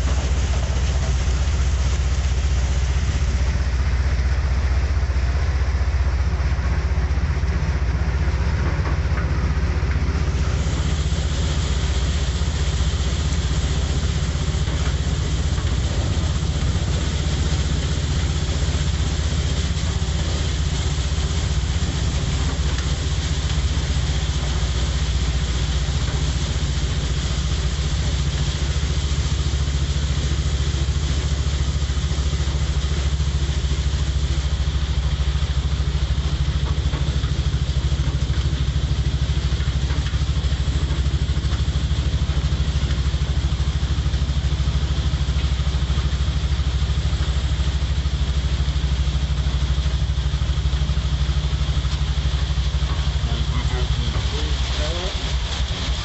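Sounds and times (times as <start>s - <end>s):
rain hissing: 0.0s - 56.0s
vehicle engine droning: 0.0s - 56.0s
wet road noise: 0.0s - 56.0s.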